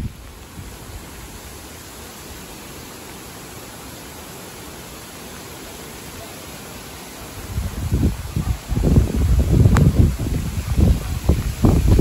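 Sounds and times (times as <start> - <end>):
rain falling on foliage: 0.0 - 12.0.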